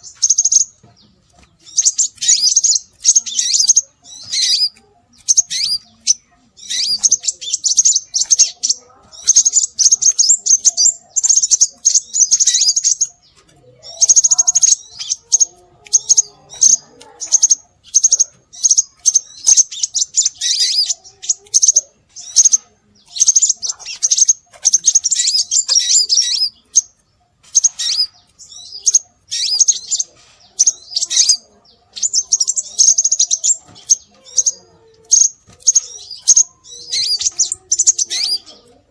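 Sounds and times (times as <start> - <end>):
high-pitched bird chirping: 0.0 - 38.9.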